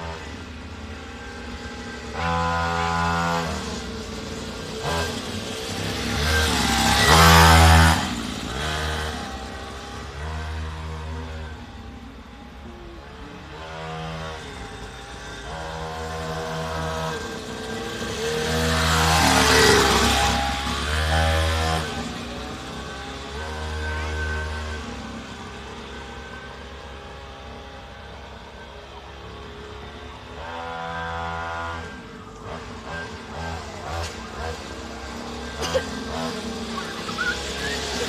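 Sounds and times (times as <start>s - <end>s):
mini dirt bike engine revving: 0.0s - 38.0s.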